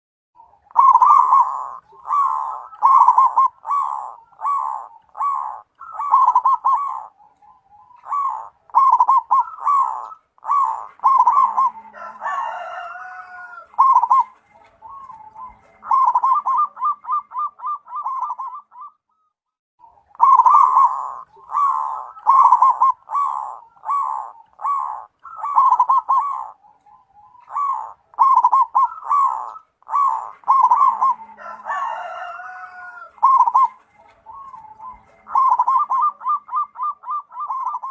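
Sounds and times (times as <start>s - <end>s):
bird call rising and falling: 0.4s - 19.0s, 19.8s - 37.9s
dove cooing: 0.4s - 37.9s.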